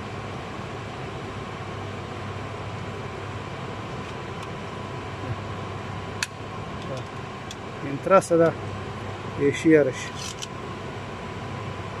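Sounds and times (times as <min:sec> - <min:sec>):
workshop background hum: 0:00.0 - 0:12.0.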